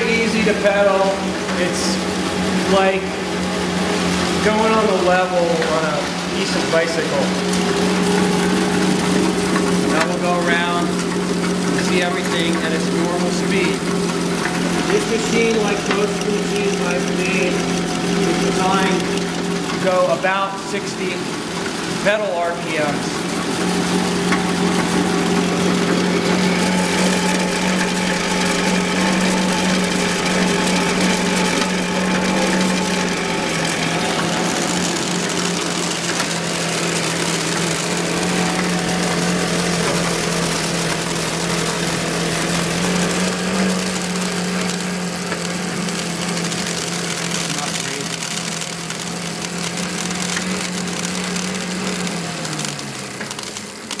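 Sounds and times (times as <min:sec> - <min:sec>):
blower fan spinning: 0:00.0 - 0:54.0
grain hissing through grinder: 0:00.0 - 0:54.0
pedal-powered machine whirring: 0:00.0 - 0:54.0.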